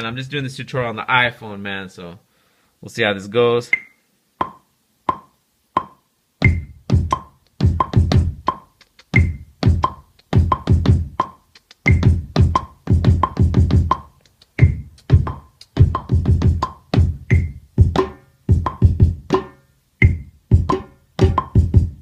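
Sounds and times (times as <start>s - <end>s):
finger-drummed drum beat: 3.7s - 22.0s.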